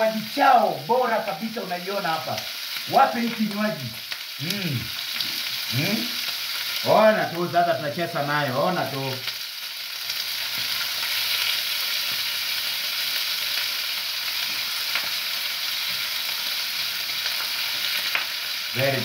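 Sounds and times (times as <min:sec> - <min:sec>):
liver sizzling in a frying pan: 0:00.0 - 0:19.0.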